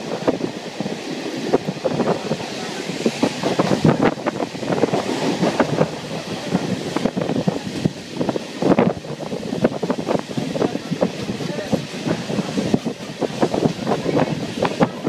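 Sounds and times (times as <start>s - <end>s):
wheels clattering on rails: 0.0s - 15.0s
wind buffeting microphone: 0.0s - 15.0s.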